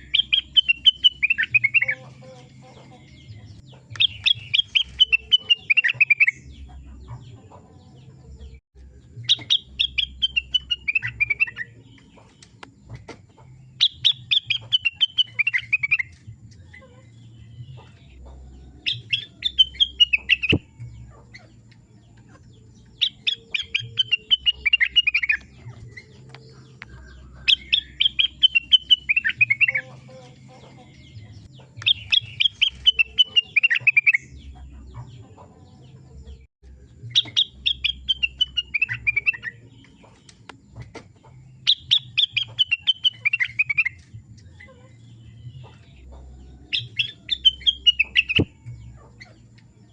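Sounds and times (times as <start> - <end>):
songbird trilling: 0.0 - 7.3, 9.2 - 12.2, 13.7 - 35.4, 37.1 - 40.6, 41.2 - 49.9.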